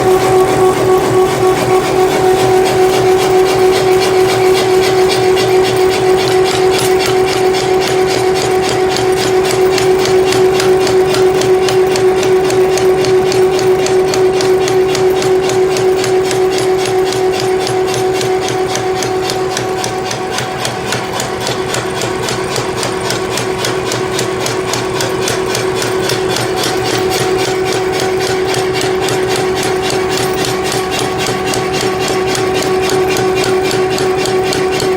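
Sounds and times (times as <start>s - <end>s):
power hammer striking: 0.0s - 34.9s.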